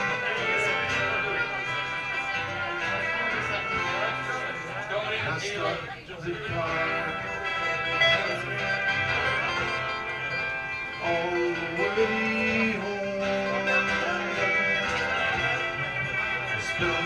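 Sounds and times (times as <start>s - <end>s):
acoustic guitars playing a tune: 0.0s - 17.0s.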